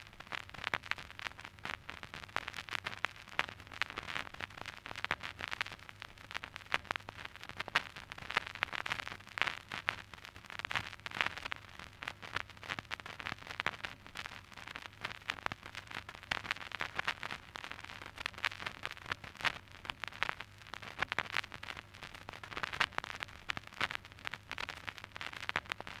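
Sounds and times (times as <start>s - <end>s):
steady record hiss: 0.0s - 26.0s
vinyl crackles and pops: 0.0s - 26.0s.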